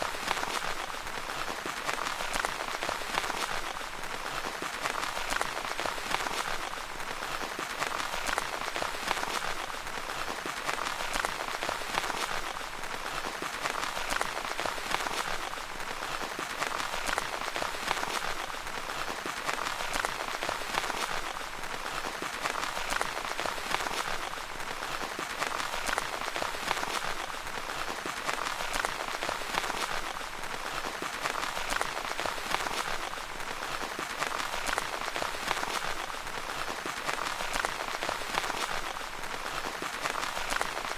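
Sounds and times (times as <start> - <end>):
rain falling on a tent: 0.0 - 40.9.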